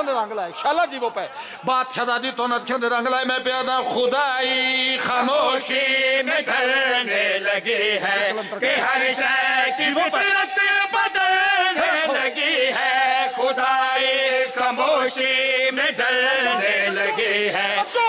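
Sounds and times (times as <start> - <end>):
men chanting into a microphone: 1.2 - 18.0.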